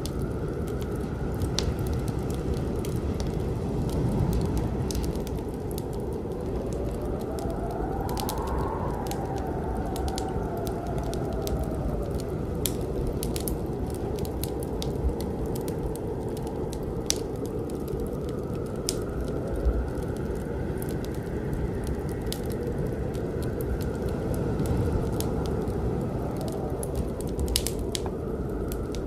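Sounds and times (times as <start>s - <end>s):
sharp crackles and clicks: 0.0s - 29.0s.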